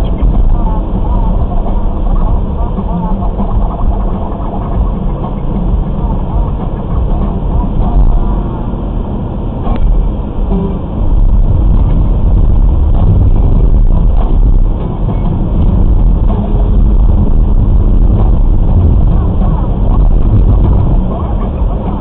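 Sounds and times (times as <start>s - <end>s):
low rumble of tyres and engine: 0.0s - 22.0s.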